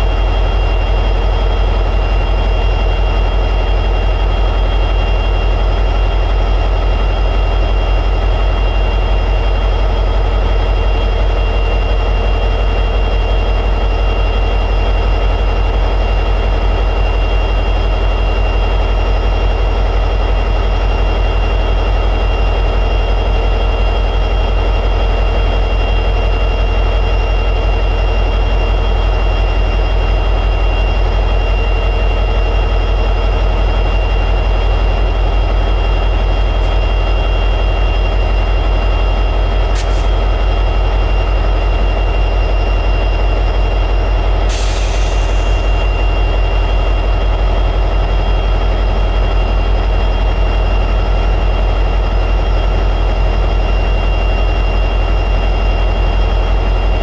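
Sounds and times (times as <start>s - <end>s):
diesel engine deep drone: 0.0s - 57.0s
high-pitched whine: 0.0s - 57.0s.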